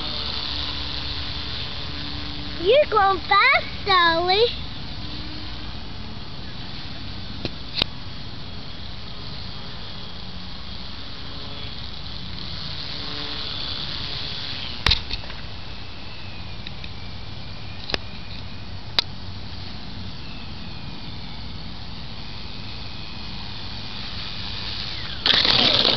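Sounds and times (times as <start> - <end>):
model plane motor whine: 0.0 - 25.9
steady hiss: 0.0 - 25.9.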